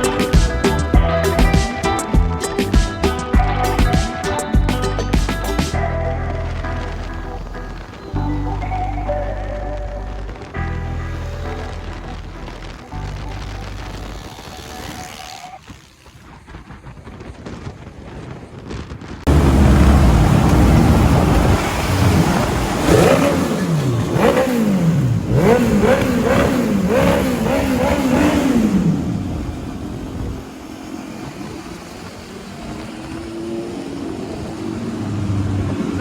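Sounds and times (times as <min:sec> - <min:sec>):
motorcycle engine revving: 0:00.0 - 0:16.4, 0:19.3 - 0:36.0.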